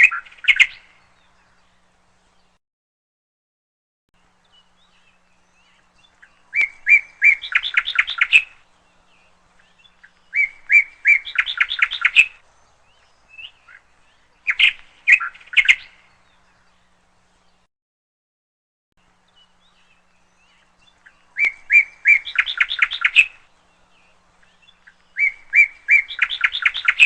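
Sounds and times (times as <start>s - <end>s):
lovebirds chirping rapidly: 0.0s - 2.6s, 4.4s - 17.7s, 19.0s - 27.0s.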